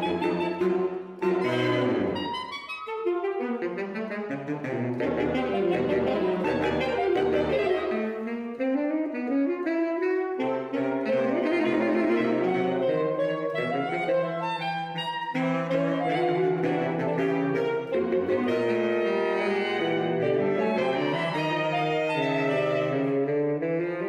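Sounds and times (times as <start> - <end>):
saxophone quartet playing: 0.0 - 24.0.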